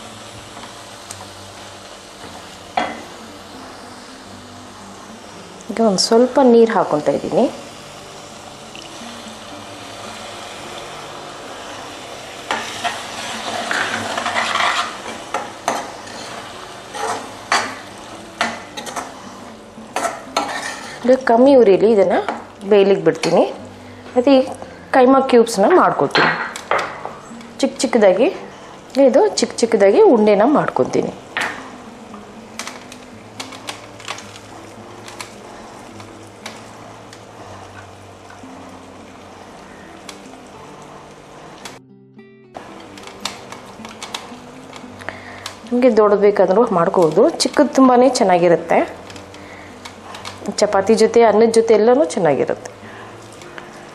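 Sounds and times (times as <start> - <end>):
spices sizzling in oil: 0.0 - 41.8, 42.6 - 53.9
soft music with low held notes: 0.0 - 53.9.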